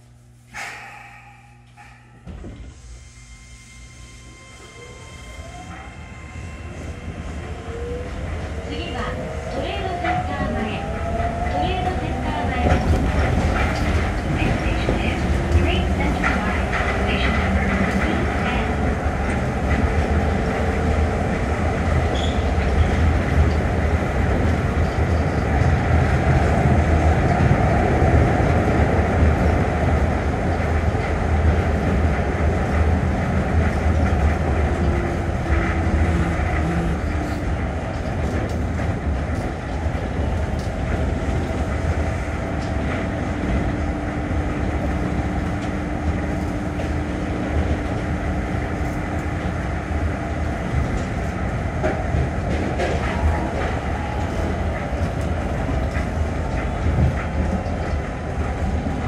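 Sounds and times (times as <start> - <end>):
train wheels rumbling: 5.3 - 59.0.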